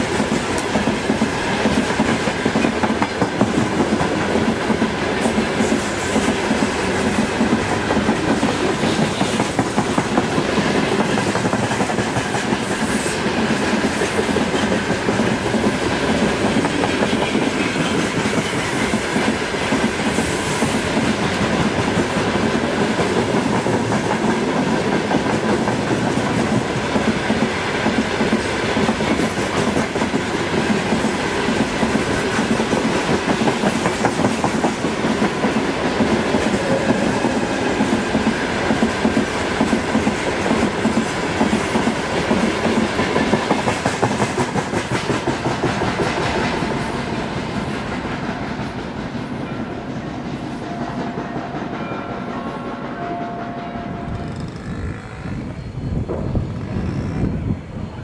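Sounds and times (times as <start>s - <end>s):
freight train wheels clattering: 0.0s - 57.7s.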